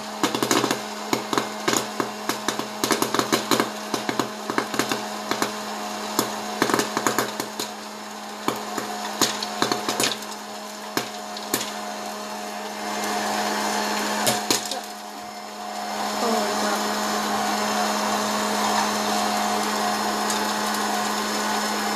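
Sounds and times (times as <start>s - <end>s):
popcorn popping: 0.0s - 16.1s, 17.5s - 21.9s
popcorn popper fan humming: 0.0s - 21.9s.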